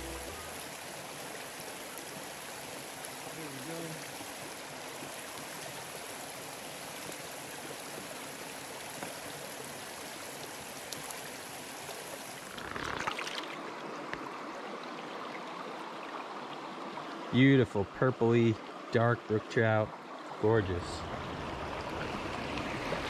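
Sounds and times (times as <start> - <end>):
stream rushing over stones: 0.0 - 17.4, 19.9 - 23.0.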